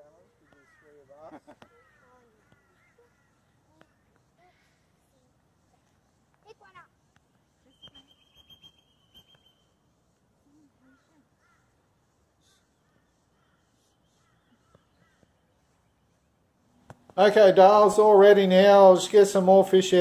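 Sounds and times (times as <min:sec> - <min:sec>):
faint bird calls: 0:00.0 - 0:16.7.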